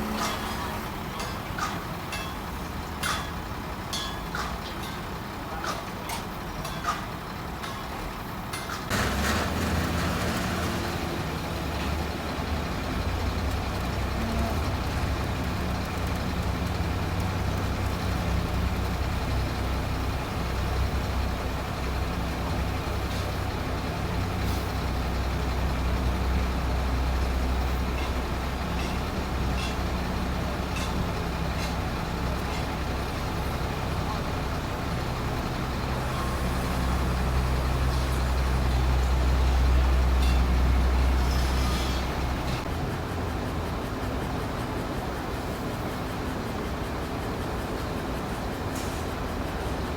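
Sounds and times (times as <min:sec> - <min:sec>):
bulldozer engine droning: 0:00.0 - 0:05.6, 0:06.4 - 0:49.9.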